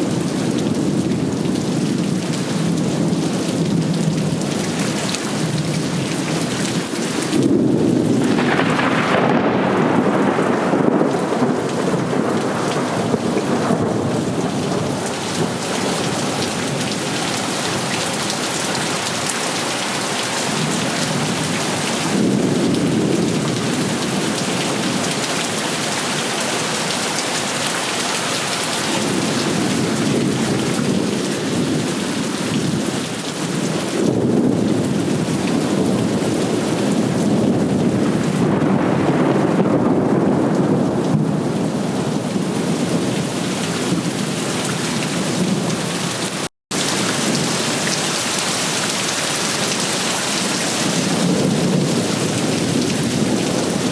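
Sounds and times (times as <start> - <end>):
low thunder rumbling: 0.0 - 19.4, 20.4 - 25.7, 28.8 - 45.9, 50.4 - 53.9
heavy rain pouring: 0.0 - 53.9.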